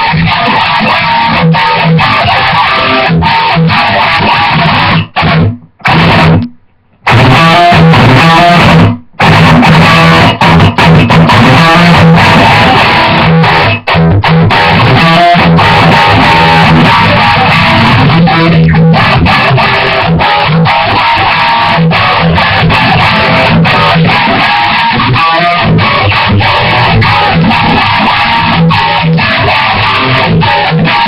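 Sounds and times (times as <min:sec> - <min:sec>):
electric guitar metal riff: 0:00.0 - 0:31.0.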